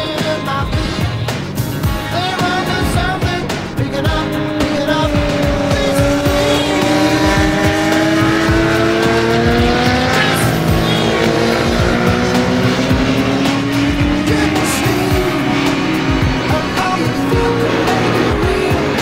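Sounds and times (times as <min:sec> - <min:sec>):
motorcycle engines running hard: 0:00.0 - 0:19.0.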